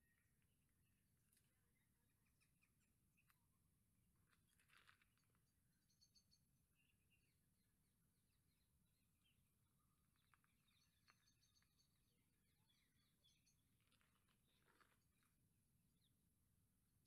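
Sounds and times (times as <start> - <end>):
faint bird chirps: 0.0 - 16.2.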